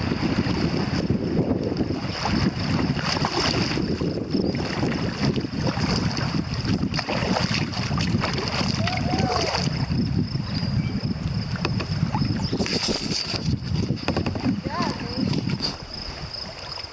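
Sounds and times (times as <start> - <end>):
river water rushing and splashing: 0.0 - 10.0, 11.5 - 16.9
wind buffeting microphone: 0.0 - 16.9.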